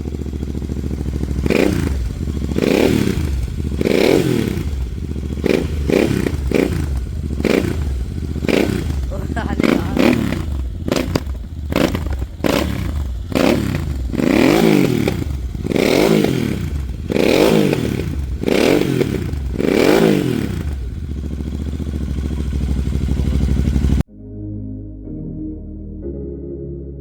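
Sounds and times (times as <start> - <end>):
exhaust crackling: 0.0 - 24.0
motorcycle engine idling: 0.0 - 24.0
motorcycle engine revving: 0.0 - 24.1.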